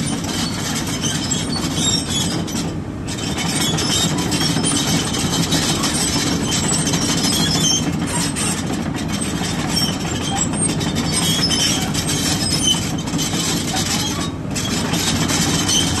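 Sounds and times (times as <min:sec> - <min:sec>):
excavator diesel engine drone: 0:00.0 - 0:16.0.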